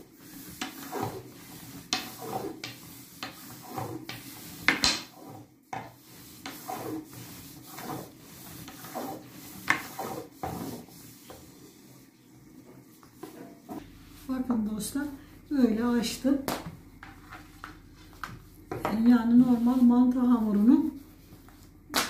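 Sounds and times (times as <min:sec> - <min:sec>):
rolling pin rubbing over dough: 0:00.0 - 0:15.8, 0:16.9 - 0:22.0.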